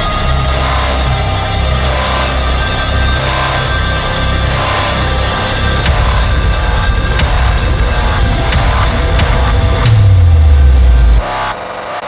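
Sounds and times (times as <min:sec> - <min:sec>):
electronic music with drum hits: 0:00.0 - 0:12.0.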